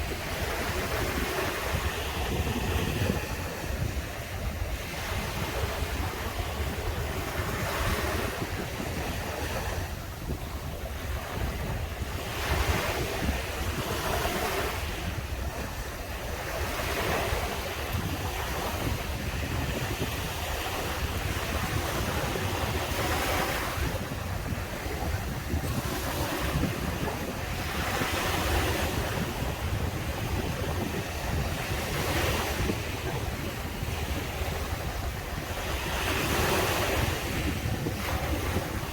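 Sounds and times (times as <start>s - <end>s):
surf breaking on a beach: 0.0s - 38.9s
wind rumble on microphone: 0.0s - 38.9s.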